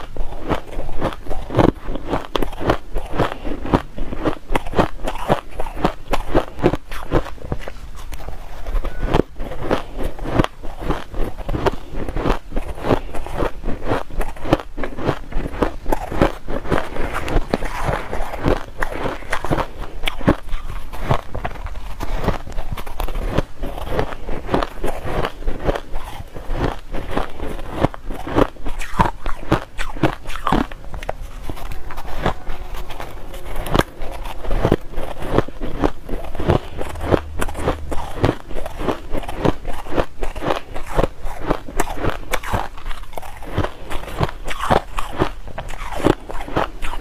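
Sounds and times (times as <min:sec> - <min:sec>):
shaved ice being chewed: 0:00.0 - 0:47.0.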